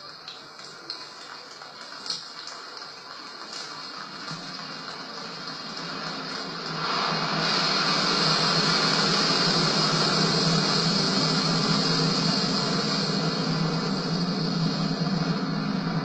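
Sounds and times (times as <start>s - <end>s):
jet engine roar: 3.0s - 16.0s.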